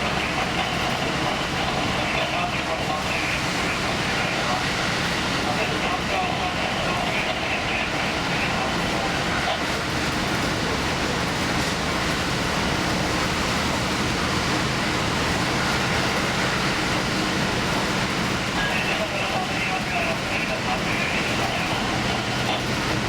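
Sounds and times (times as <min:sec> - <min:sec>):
train motor: 0:00.0 - 0:23.0
train wheels rumbling on rails: 0:00.0 - 0:23.0.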